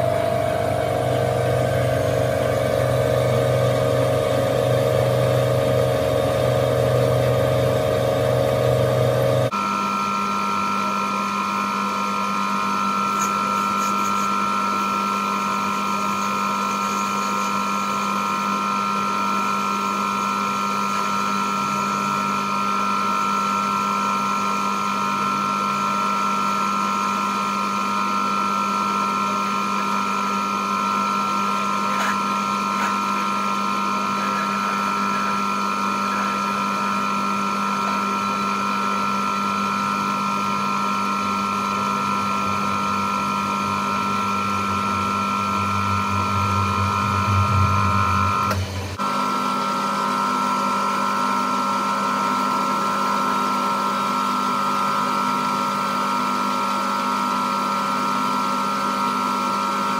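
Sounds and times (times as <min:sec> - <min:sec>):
metal lathe motor whine: 0:00.0 - 0:59.9.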